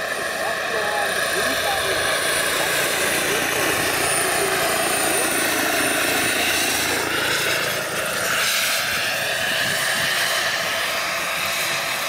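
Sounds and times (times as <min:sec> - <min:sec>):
model helicopter whining: 0:00.0 - 0:12.0.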